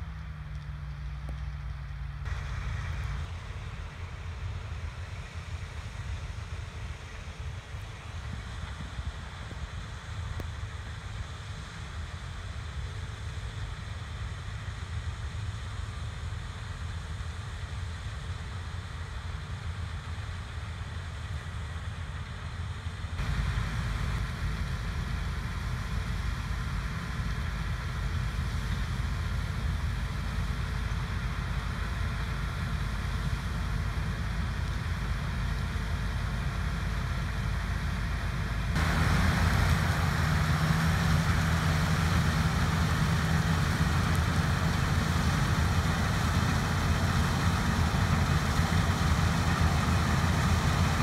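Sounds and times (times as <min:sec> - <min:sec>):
diesel machinery rumbling: 0:00.0 - 0:51.0.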